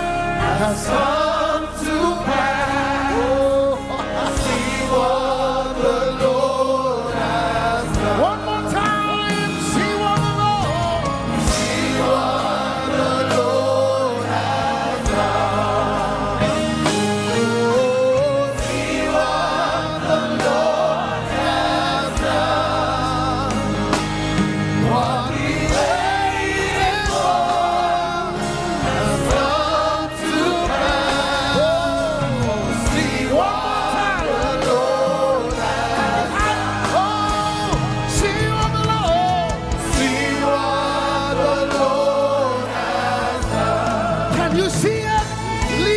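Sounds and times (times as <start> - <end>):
band bass and drums: 0.0 - 45.9
choir singing with vibrato: 0.0 - 45.9.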